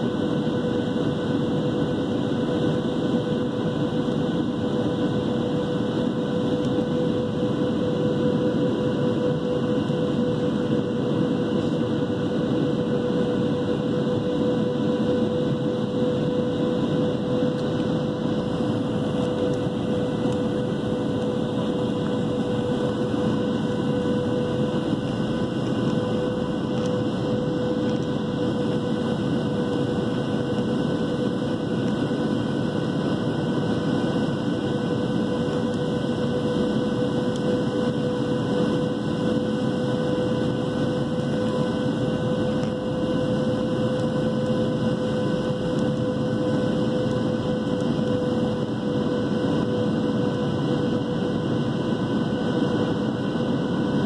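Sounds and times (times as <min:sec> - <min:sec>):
constant cabin hum: 0:00.0 - 0:54.0
jet engine and airflow rush: 0:00.0 - 0:54.0.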